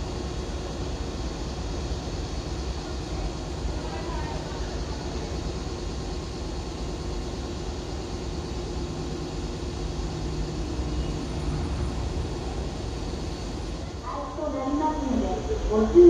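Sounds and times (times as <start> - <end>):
electric train equipment humming: 0.0 - 16.0.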